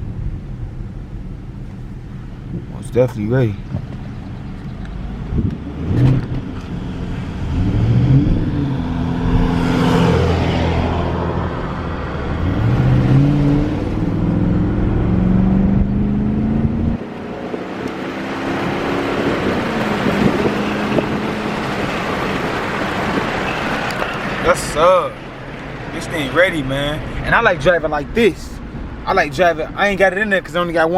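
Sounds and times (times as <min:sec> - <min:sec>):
car engine accelerating: 0:00.0 - 0:30.9
road and tyre noise: 0:00.0 - 0:30.9.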